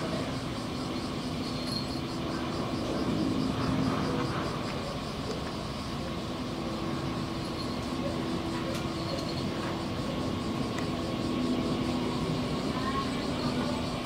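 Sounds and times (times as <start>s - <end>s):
faint even hum: 0.0s - 14.0s
steady background rumble: 0.0s - 14.0s.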